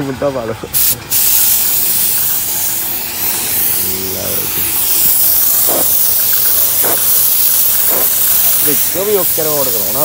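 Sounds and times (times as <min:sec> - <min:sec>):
spray gun hissing: 0:00.8 - 0:10.0.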